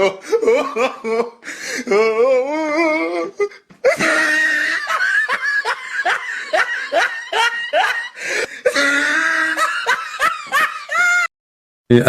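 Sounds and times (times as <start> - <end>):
person laughing hard: 0.0 - 11.3.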